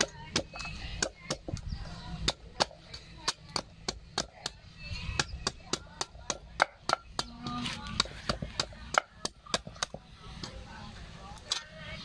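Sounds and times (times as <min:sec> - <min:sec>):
cleaver chopping coconut husk: 0:00.0 - 0:10.6.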